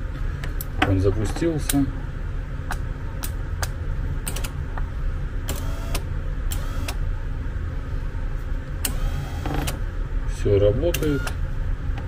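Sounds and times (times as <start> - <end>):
geared motors humming: 0.0 - 7.3, 8.6 - 12.0.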